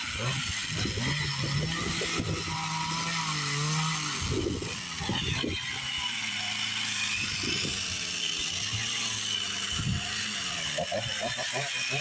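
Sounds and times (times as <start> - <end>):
chainsaw running: 0.0 - 12.0.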